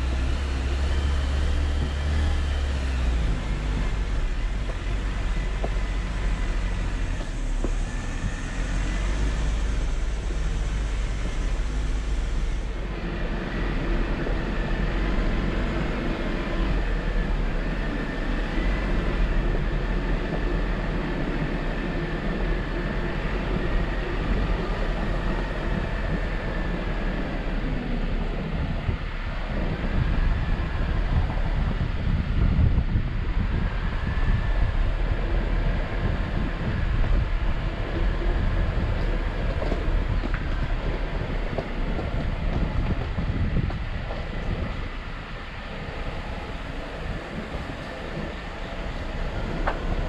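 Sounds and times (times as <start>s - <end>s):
engine and drivetrain rumble: 0.0s - 50.0s.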